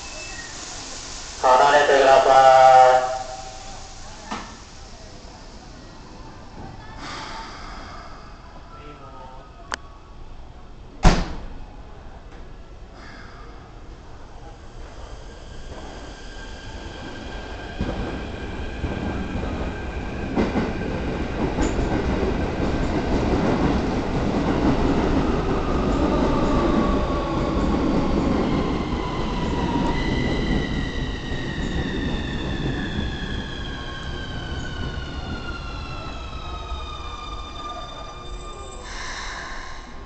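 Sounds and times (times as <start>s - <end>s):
electric train running past: 0.0s - 8.7s, 13.0s - 40.0s.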